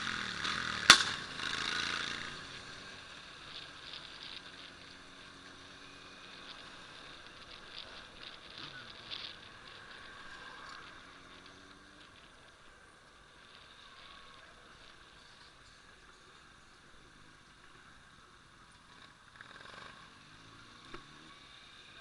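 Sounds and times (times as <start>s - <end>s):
crackling hiss: 0.0s - 22.0s
faint motorcycle engine running: 0.0s - 22.0s.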